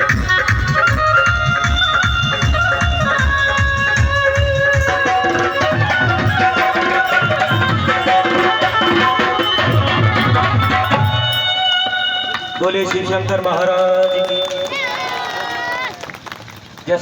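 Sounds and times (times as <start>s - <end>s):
hand drums: 0.0s - 13.7s
sustained melody line: 0.0s - 14.0s.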